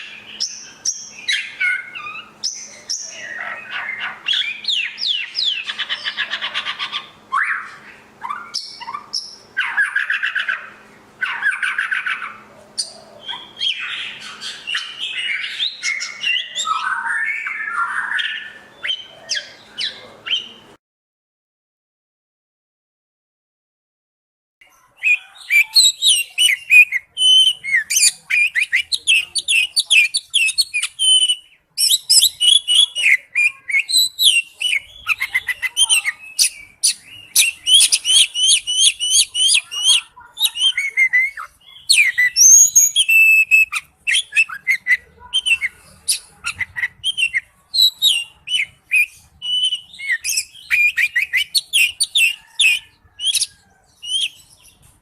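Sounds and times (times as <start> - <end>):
songbird singing trills: 0.0 - 20.8, 24.6 - 55.0.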